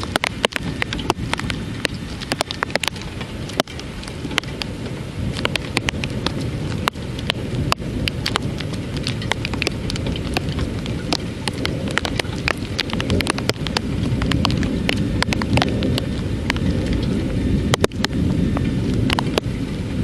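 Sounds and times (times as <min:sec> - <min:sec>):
low thunder rumble: 0:00.0 - 0:20.0
raindrops hitting close by: 0:00.0 - 0:20.0.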